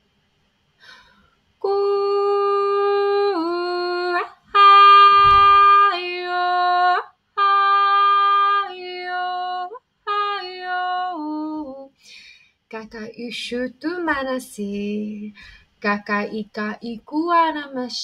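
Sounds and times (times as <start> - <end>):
woman singing wordless notes: 1.6 - 12.0, 12.7 - 18.0.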